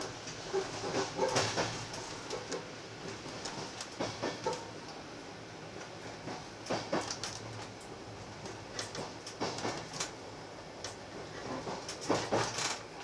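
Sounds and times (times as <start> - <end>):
train rolling noise: 0.0 - 13.0.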